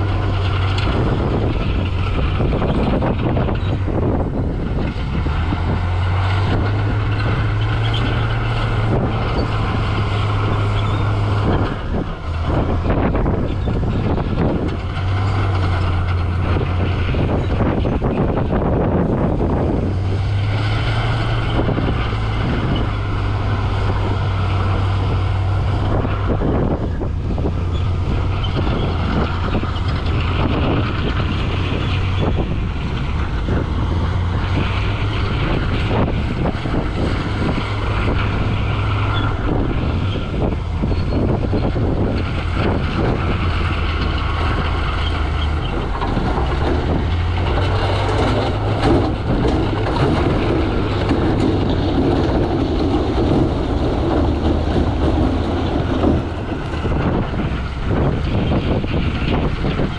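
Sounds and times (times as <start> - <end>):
heavy diesel engine running: 0.0 - 59.9
knocks and clanks: 4.8 - 59.9.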